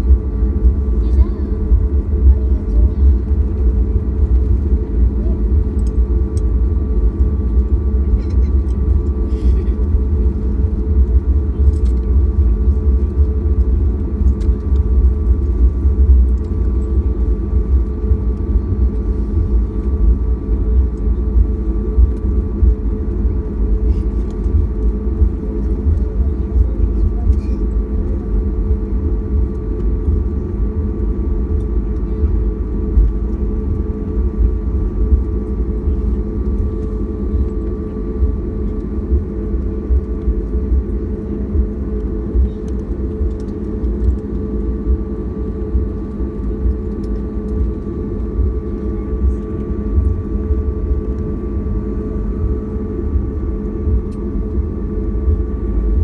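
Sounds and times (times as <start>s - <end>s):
aircraft cabin rumble: 0.0s - 56.0s
jet engines idling whine: 0.0s - 56.0s.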